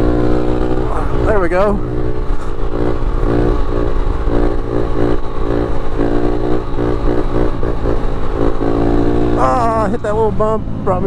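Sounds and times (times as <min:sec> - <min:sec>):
pit bike engine revving: 0:00.0 - 0:11.0.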